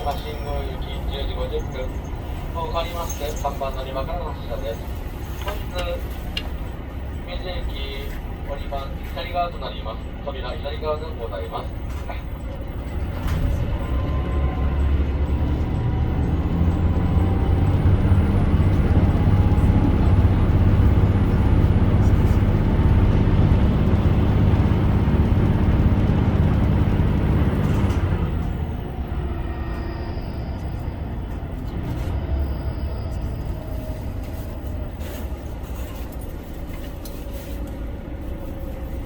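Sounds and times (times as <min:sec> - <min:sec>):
diesel railcar engine drone: 0:00.0 - 0:39.0.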